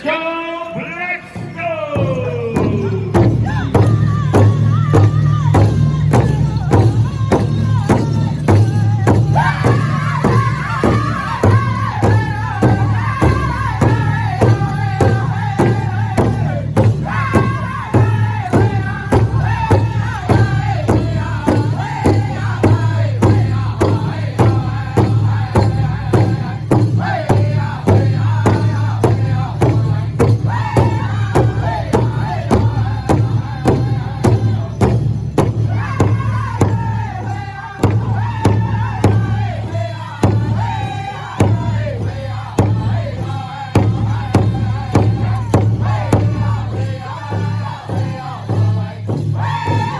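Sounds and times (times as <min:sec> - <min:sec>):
steady drumbeat: 0:00.8 - 0:49.9
group singing: 0:02.1 - 0:49.9.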